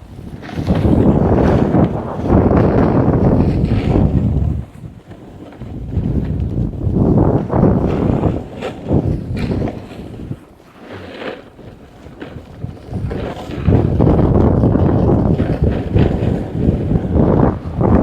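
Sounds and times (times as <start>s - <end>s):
snowboard scraping over snow: 0.0s - 18.0s
wind buffeting microphone: 0.0s - 18.0s.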